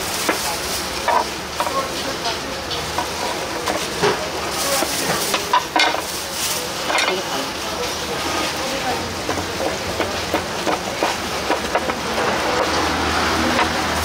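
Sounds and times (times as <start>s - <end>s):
utensils clicking and clattering: 0.0s - 14.0s.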